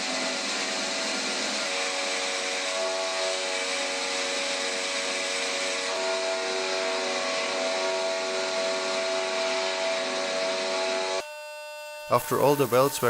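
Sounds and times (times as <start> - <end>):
angle grinder grinding steel: 0.0 - 11.3, 11.9 - 13.0.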